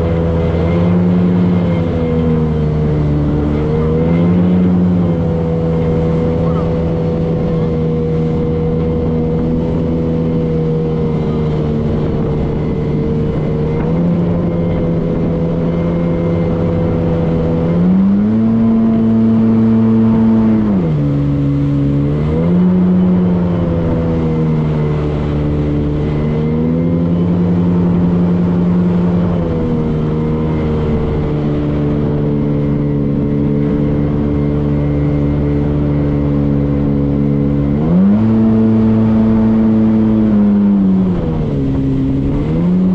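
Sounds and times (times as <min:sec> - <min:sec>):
motorboat engine running: 0:00.0 - 0:42.9.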